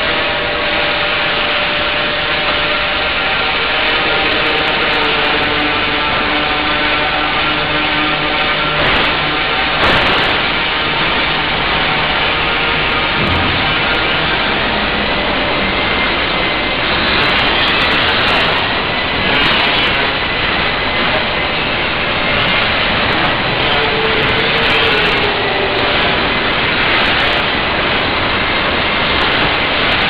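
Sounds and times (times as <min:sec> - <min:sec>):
factory machinery rushing: 0:00.0 - 0:30.0.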